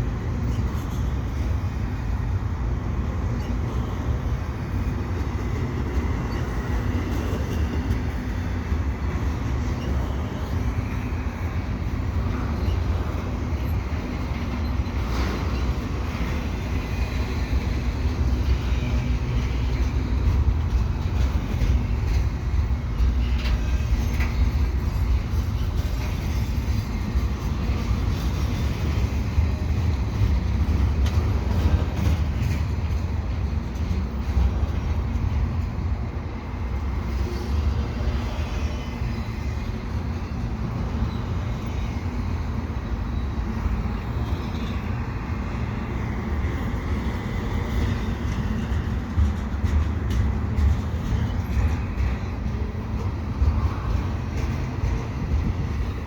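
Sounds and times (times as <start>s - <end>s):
freight train cars rumbling past: 0.0s - 56.0s.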